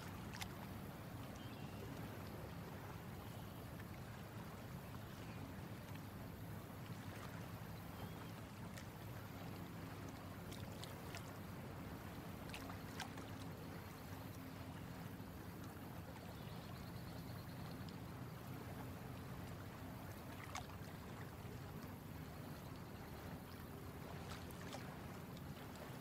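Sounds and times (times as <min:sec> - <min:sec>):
water lapping against boat hull: 0:00.0 - 0:26.0.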